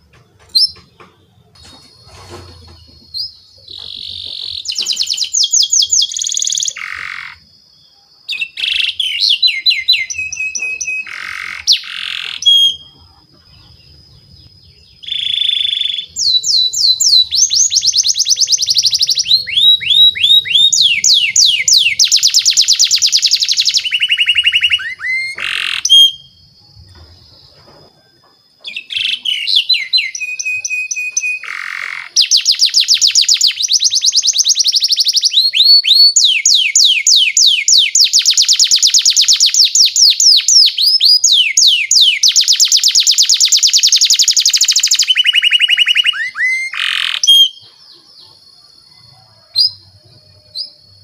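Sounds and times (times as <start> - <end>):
canary singing trills: 0.0 - 51.0.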